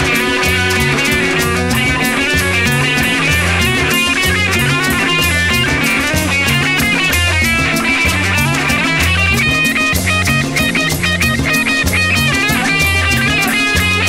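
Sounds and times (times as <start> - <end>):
bass guitar: 0.0 - 14.0
drum kit beat: 0.0 - 14.0
electric guitar lines: 0.0 - 14.0.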